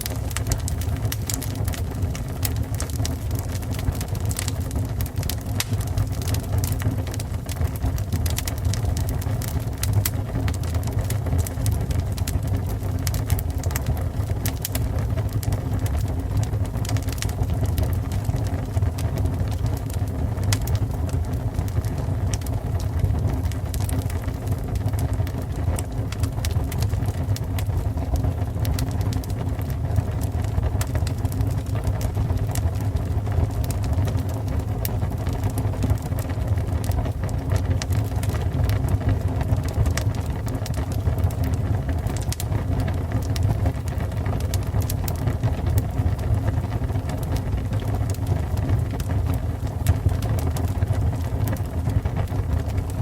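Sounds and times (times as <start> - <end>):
fire crackles and pops: 0.0 - 53.0
fire rumbling: 0.0 - 53.0.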